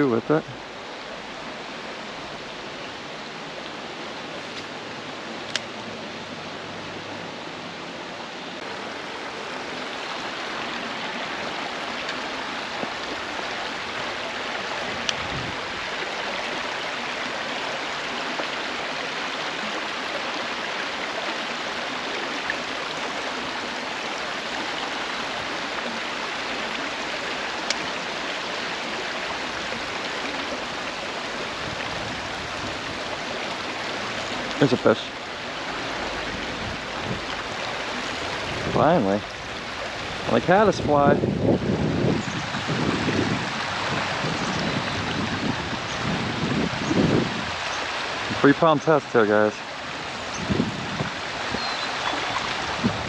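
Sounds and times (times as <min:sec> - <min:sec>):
creek water running over stones: 0:00.0 - 0:53.0.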